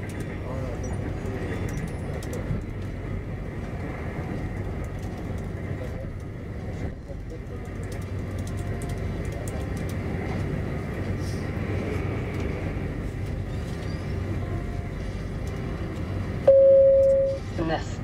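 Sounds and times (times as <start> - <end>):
train wheels rumbling on rail: 0.0 - 16.5.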